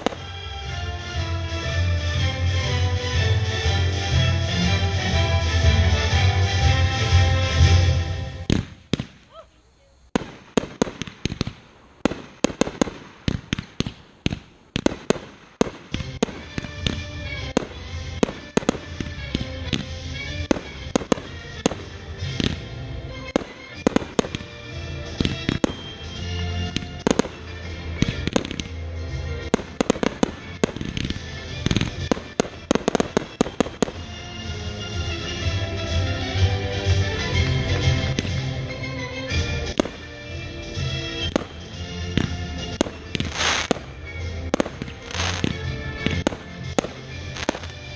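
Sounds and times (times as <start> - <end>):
music playing: 0.0 - 8.6, 15.7 - 47.9
fireworks bursting: 0.0 - 47.9.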